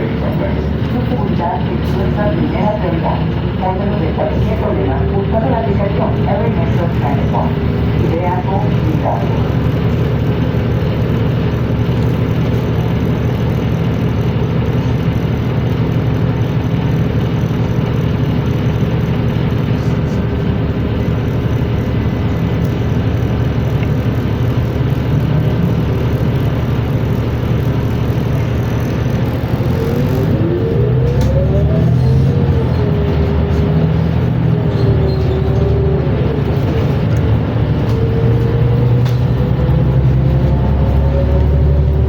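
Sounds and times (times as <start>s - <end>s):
bus engine drone: 0.0s - 42.0s.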